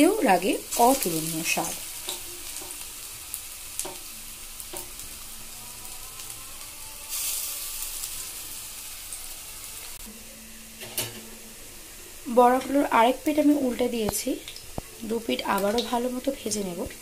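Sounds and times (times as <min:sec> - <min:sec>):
fritters sizzling in oil: 0:00.0 - 0:10.1, 0:10.8 - 0:17.0.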